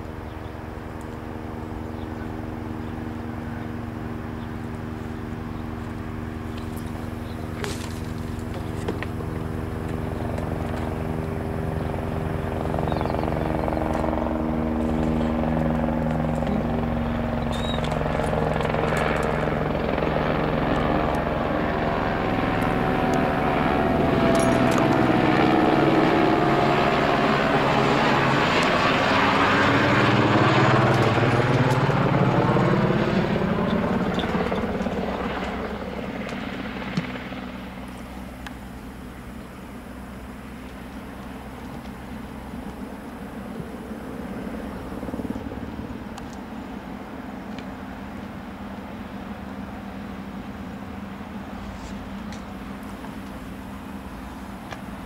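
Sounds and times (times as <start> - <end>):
helicopter passing: 0.0 - 55.0.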